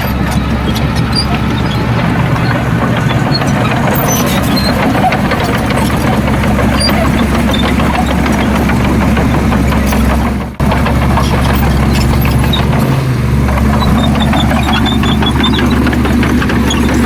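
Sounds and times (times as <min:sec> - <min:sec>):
clanks and knocks: 0:00.0 - 0:17.0
heavy diesel engine running: 0:00.0 - 0:17.0.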